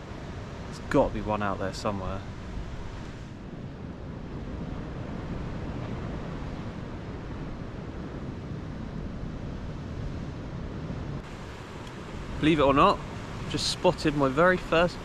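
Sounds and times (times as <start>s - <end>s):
sea surf: 0.0s - 15.0s
wind noise on microphone: 1.9s - 15.0s.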